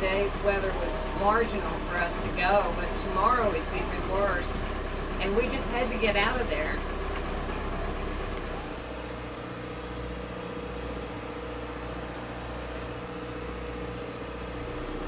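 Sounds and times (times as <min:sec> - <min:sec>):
boat diesel engine droning: 0:00.0 - 0:15.0.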